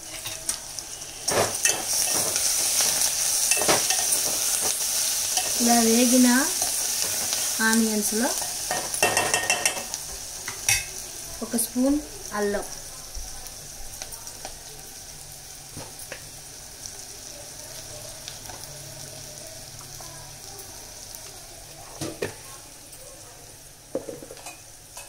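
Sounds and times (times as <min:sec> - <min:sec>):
onions sizzling in a pot: 0:00.0 - 0:25.0.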